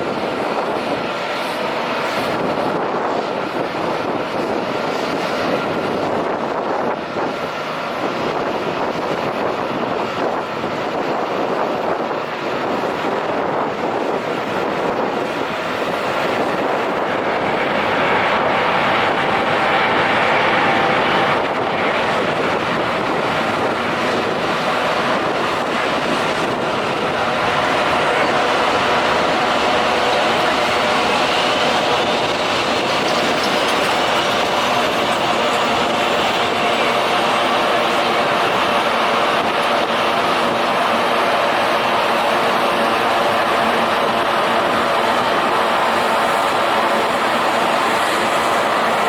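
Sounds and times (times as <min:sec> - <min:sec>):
jet engines roaring: 0:00.0 - 0:49.0
wind buffeting microphone: 0:00.0 - 0:49.0.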